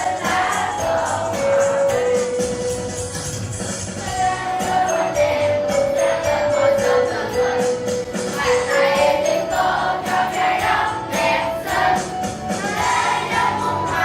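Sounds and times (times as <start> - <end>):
children singing together: 0.0 - 2.4, 4.0 - 14.0
jingling tambourine percussion: 0.0 - 14.0.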